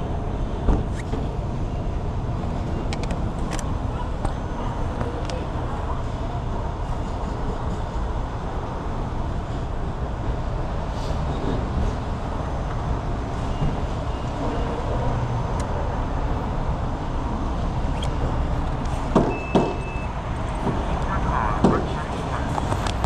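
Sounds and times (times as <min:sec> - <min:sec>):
truck road noise: 0:00.0 - 0:23.0.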